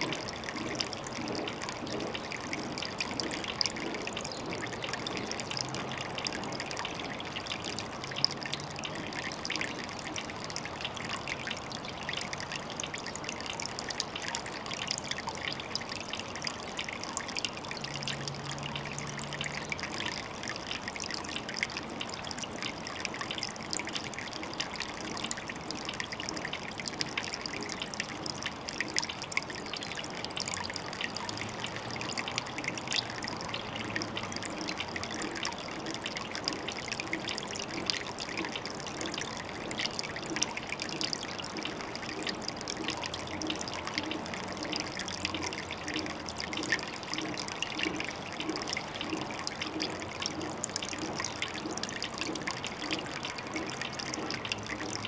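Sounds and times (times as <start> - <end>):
water trickling at a pond: 0.0 - 55.0.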